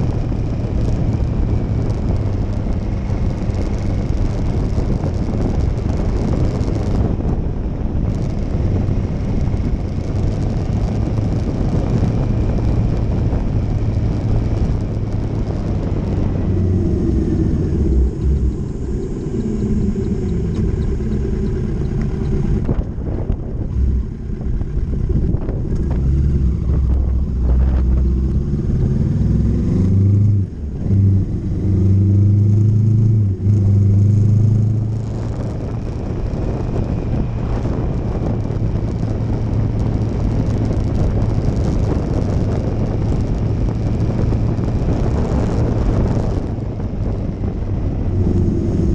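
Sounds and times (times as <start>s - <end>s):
motorcycle engine running: 0.0s - 48.9s
wind noise on microphone: 0.0s - 48.9s.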